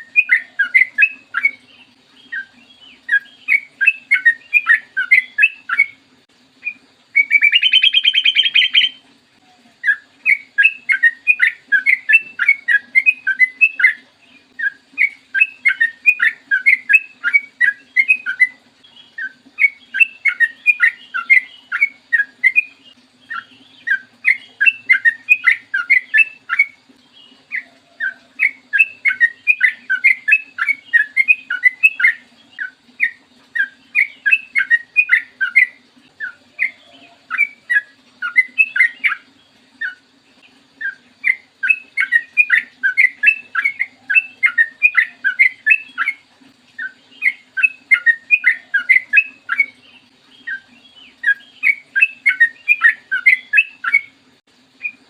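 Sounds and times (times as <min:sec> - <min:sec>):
bulbul singing: 0:00.0 - 0:54.2.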